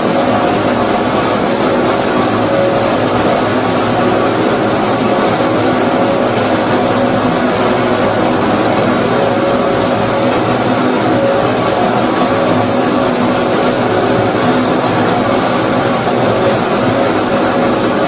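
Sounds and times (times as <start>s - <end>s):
faint steady tones: 0.0s - 18.0s.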